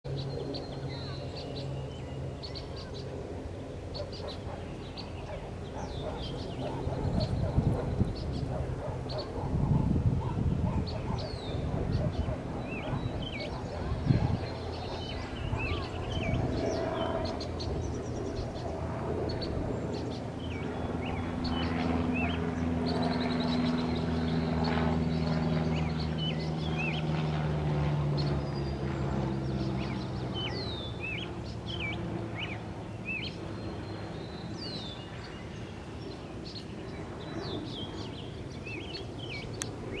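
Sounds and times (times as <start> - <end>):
low engine drone: 0.1 - 40.0
small birds chirping: 0.1 - 40.0.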